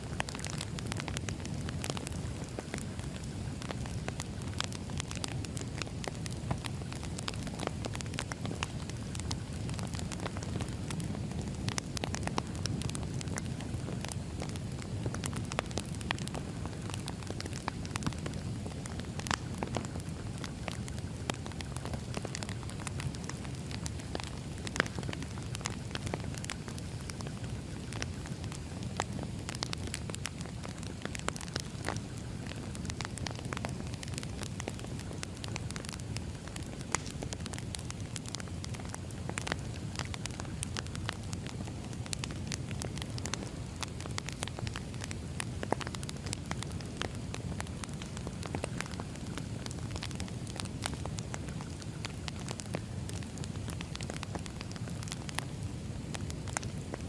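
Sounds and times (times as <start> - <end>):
burning logs crackling and popping: 0.0 - 57.0
fire low rumble: 0.0 - 57.0.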